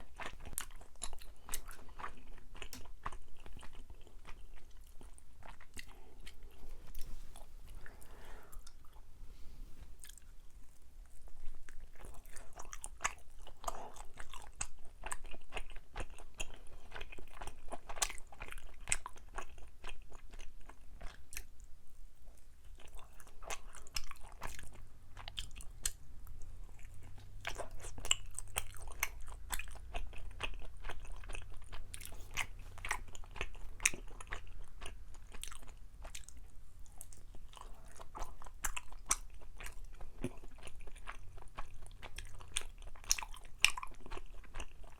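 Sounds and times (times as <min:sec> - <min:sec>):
close chewing mouth sounds: 0:00.0 - 0:09.1, 0:09.9 - 0:44.9.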